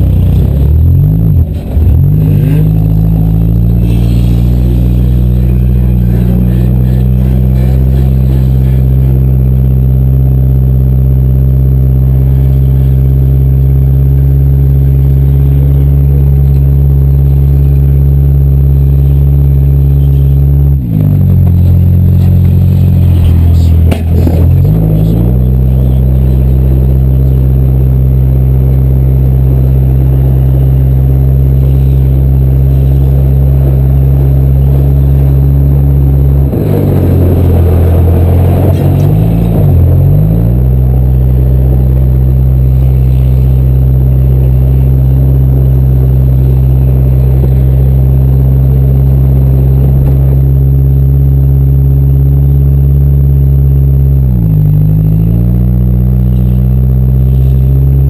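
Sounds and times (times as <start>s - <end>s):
car engine revving loud: 0.0s - 58.0s.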